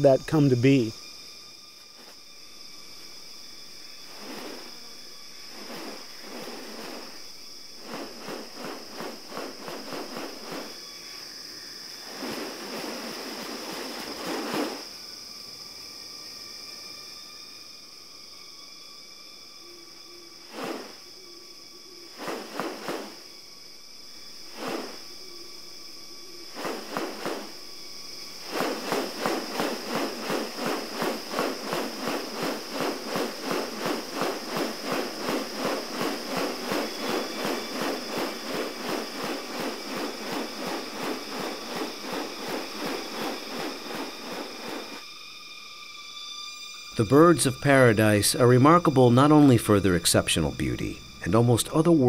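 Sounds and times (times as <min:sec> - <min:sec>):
high-pitched insect drone: 0:00.0 - 0:52.0.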